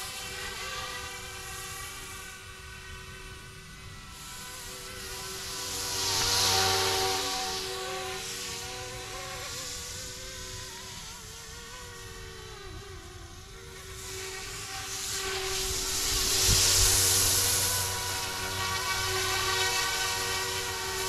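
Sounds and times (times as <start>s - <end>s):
rc helicopter whine: 0.0s - 21.0s.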